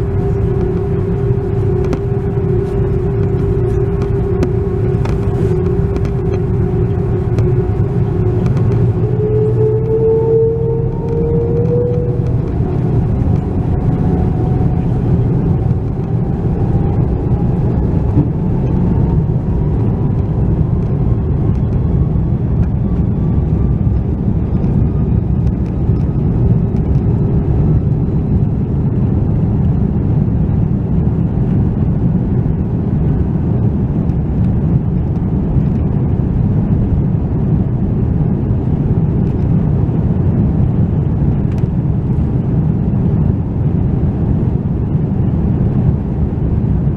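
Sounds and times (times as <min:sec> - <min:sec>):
faint rising engine whine: 0:00.0 - 0:46.9
jet engine rumble in cabin: 0:00.0 - 0:46.9.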